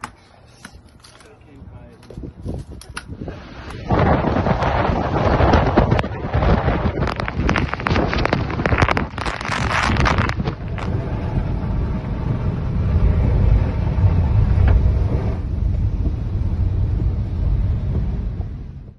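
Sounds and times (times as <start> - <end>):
wind buffeting microphone: 1.4 - 18.9
crackling gust hits: 2.2 - 18.9.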